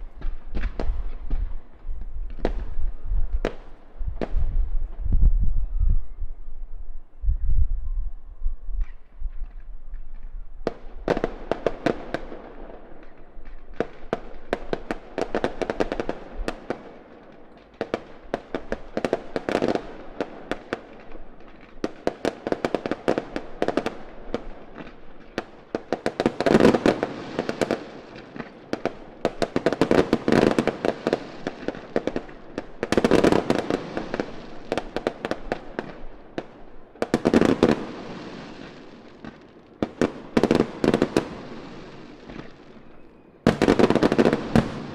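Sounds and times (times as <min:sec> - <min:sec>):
fireworks crackling and popping: 0:00.0 - 0:05.4, 0:08.8 - 0:44.9.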